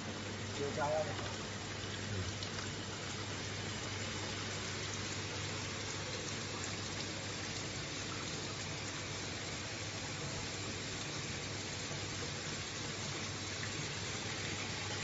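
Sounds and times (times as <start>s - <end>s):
water spraying from nozzles: 0.0s - 15.0s.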